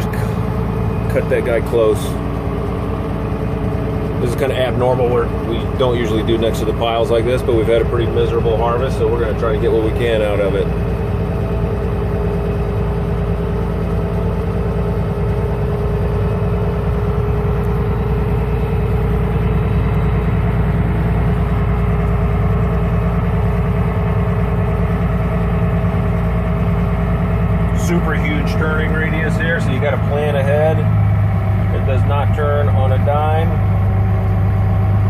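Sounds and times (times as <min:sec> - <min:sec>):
tractor diesel engine droning: 0:00.0 - 0:35.0.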